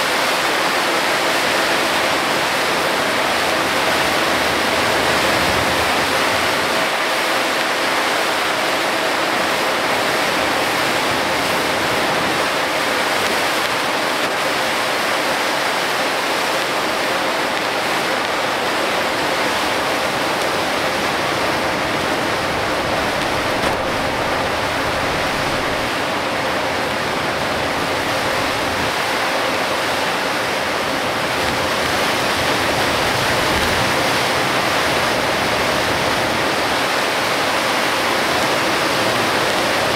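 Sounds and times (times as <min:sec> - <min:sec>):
torrential rain: 0:00.0 - 0:39.9
tyre spray on flooded road: 0:00.0 - 0:39.9.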